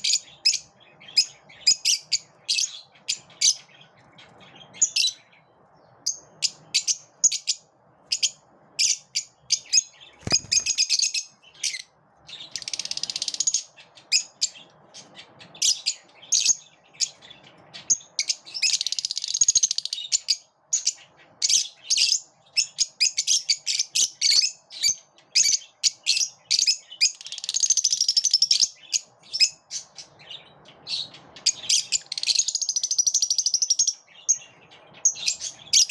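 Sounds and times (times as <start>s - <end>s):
lovebirds chirping: 0.0s - 35.9s.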